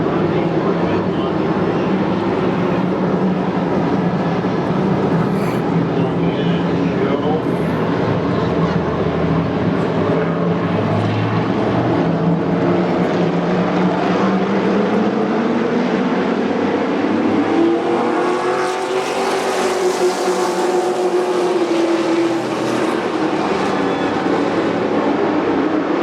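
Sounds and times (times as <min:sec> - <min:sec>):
race truck engines running hard: 0:00.0 - 0:26.0.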